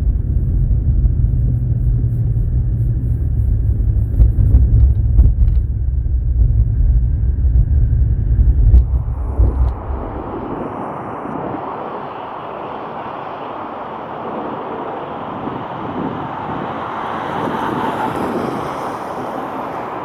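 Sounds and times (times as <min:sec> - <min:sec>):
airliner approaching: 0:00.0 - 0:20.0
wind buffeting microphone: 0:00.0 - 0:20.0.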